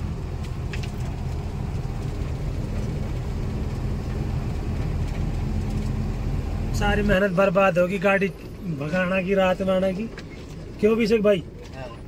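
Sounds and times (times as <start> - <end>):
road noise: 0.0 - 12.0
truck engine running: 0.0 - 12.0.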